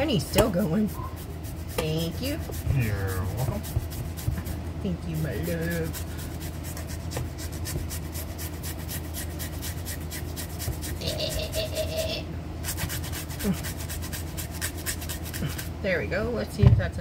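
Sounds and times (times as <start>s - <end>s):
cucumber grating on hand grater: 0.0s - 15.7s.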